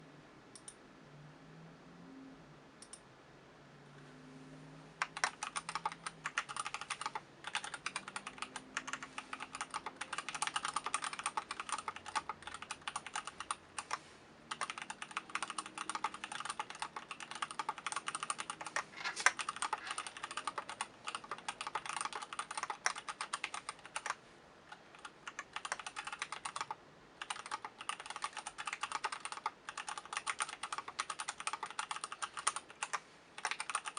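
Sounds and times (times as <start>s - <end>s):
faint low hum: 0.0s - 33.9s
mechanical keyboard typing: 5.0s - 33.9s.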